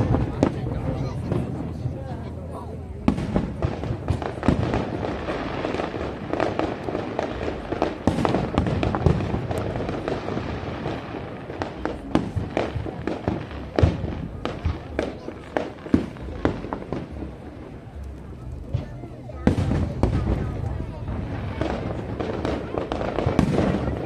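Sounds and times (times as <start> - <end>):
fireworks crackle: 0.0 - 24.0.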